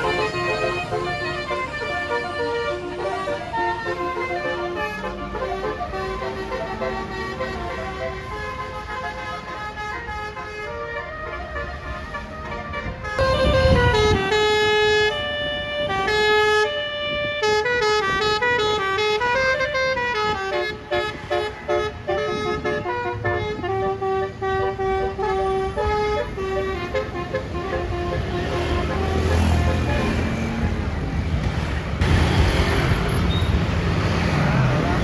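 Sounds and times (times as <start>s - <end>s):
musical bus air horn melody: 0.0s - 30.8s.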